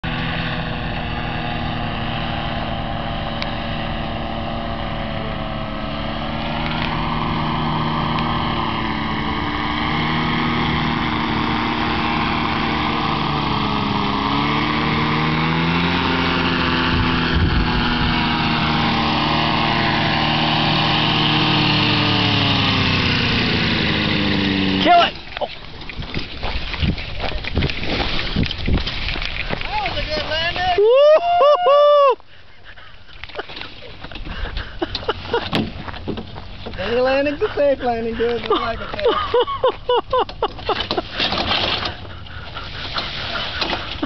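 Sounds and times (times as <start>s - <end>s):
small propeller engine: 0.0s - 44.0s.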